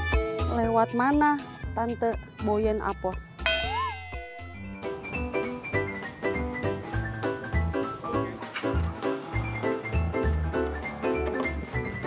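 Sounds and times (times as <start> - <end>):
bouncy background music: 0.0 - 12.0.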